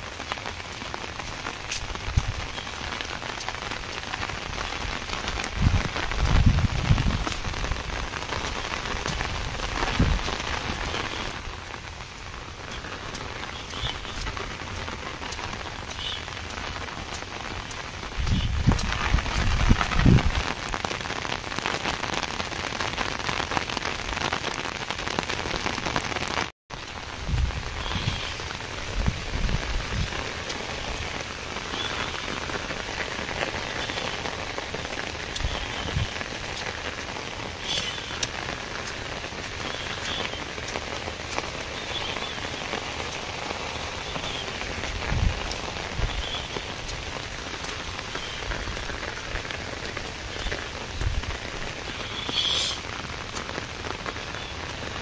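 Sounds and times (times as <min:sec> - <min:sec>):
heavy rain falling on water: 0:00.0 - 0:55.0.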